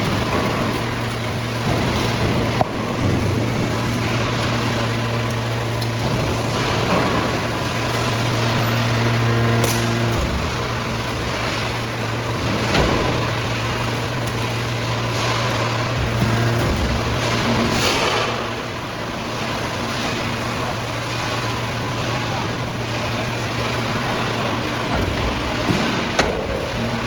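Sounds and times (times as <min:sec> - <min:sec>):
dense mechanical noise: 0:00.0 - 0:27.0
hydraulic power unit hum: 0:00.0 - 0:27.0.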